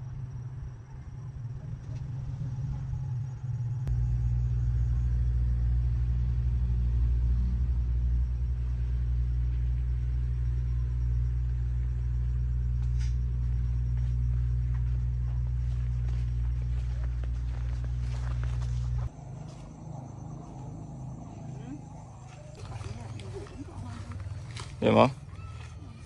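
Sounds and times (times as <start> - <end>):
engine running with low rumble: 0.0 - 26.0.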